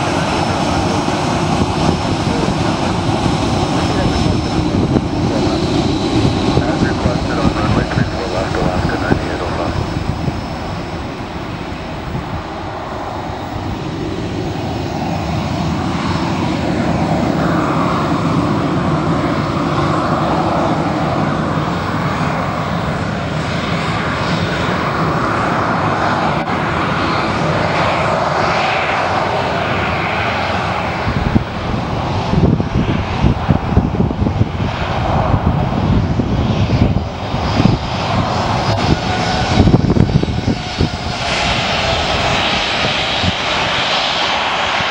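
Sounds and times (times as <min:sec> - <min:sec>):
jet engines rumbling with whine: 0:00.0 - 0:44.9.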